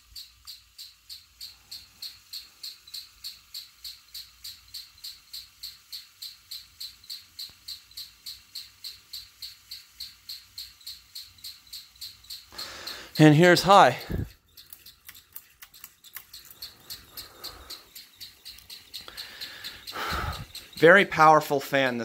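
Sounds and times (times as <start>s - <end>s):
faint fan motor hum: 0.0s - 22.0s
fan squeaking on housing: 0.0s - 22.0s.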